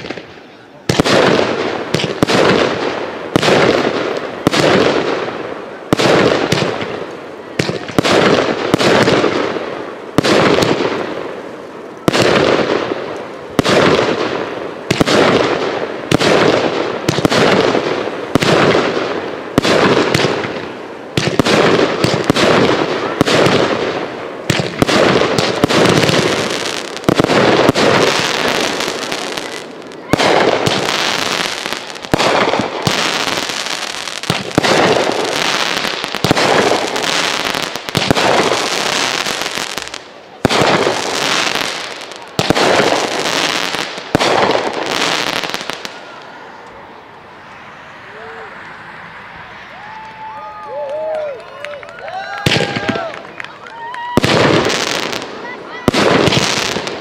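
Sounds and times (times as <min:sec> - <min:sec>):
fireworks bursting with bangs: 0:00.0 - 0:46.6, 0:52.3 - 0:57.0
fireworks crackle and rumble: 0:00.0 - 0:48.8, 0:49.4 - 0:57.0.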